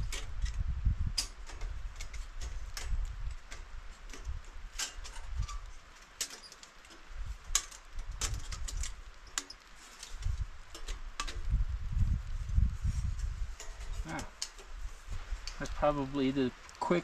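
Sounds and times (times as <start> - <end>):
tent poles and clips clicking: 0.0 - 17.0.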